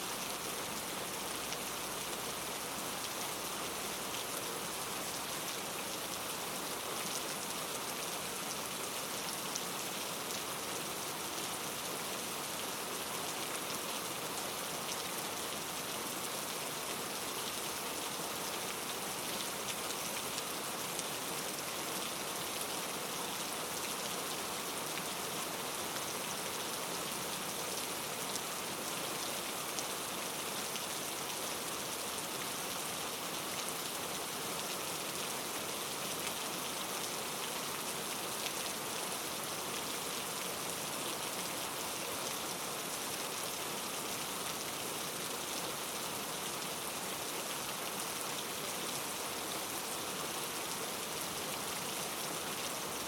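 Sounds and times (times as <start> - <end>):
rain patter: 0.0 - 53.0.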